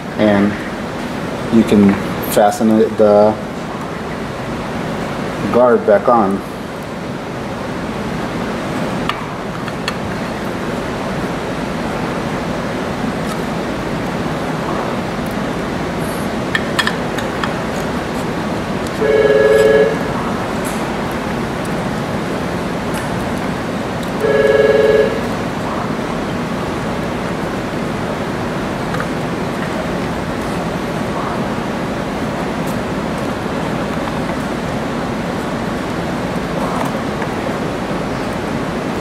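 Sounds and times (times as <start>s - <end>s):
room noise hiss: 0.0s - 39.0s.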